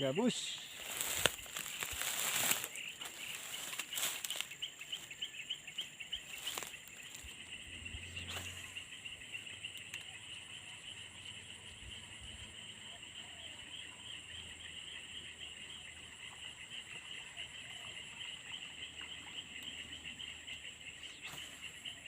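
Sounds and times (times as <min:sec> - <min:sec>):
insect pulsing chirp: 0:00.0 - 0:22.0
insects high-pitched drone: 0:00.0 - 0:22.0.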